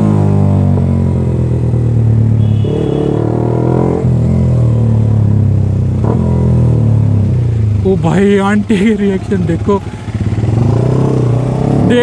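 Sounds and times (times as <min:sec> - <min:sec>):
motorcycle engine with loud exhaust: 0:00.0 - 0:12.0.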